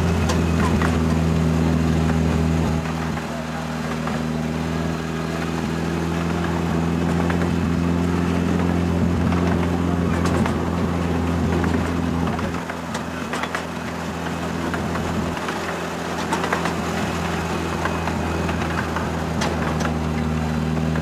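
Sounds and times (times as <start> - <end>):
small locomotive engine humming: 0.0 - 21.0
wheels clicking and rattling on track: 0.0 - 21.0.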